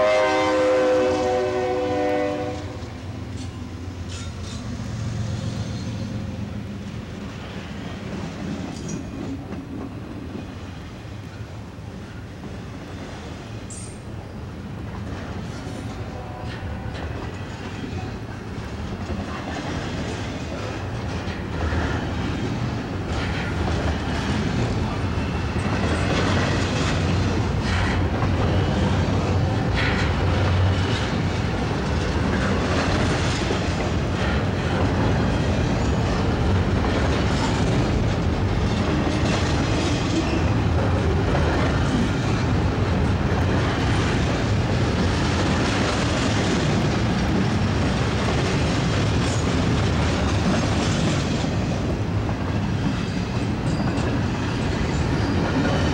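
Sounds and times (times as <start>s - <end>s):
freight train wheels clacking on rails: 0.0s - 55.9s.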